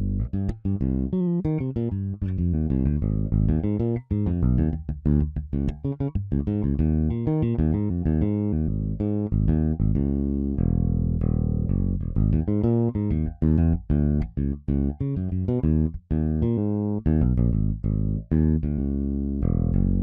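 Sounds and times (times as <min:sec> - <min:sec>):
electric bass funk groove: 0:00.0 - 0:20.0.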